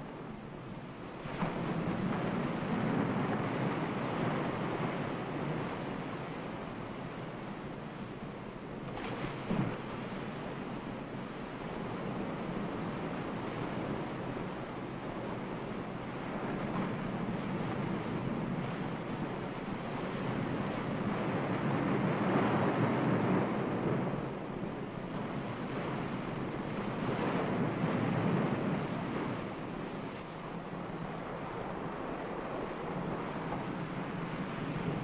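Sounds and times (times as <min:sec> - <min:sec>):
ocean surf waves: 0:00.0 - 0:35.0.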